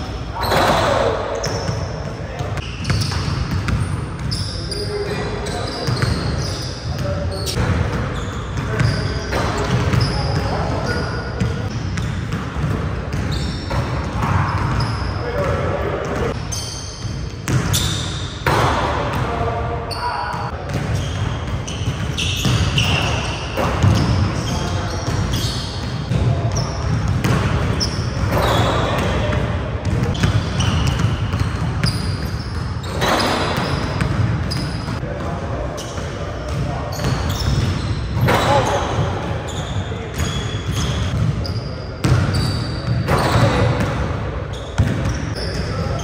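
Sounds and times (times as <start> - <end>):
basketballs bouncing on wooden floor: 0.4 - 4.4, 5.8 - 19.4, 20.3 - 35.4, 36.0 - 46.0.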